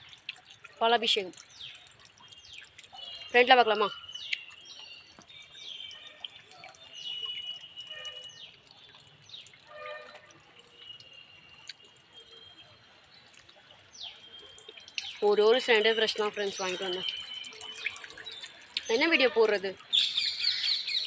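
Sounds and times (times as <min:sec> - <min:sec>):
birds chirping: 0:01.4 - 0:10.0, 0:10.6 - 0:21.0.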